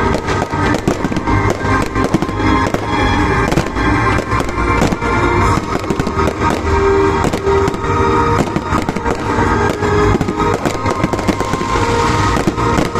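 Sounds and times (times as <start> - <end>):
fireworks bangs and cracks: 0.0 - 12.9
music playing: 0.0 - 12.9.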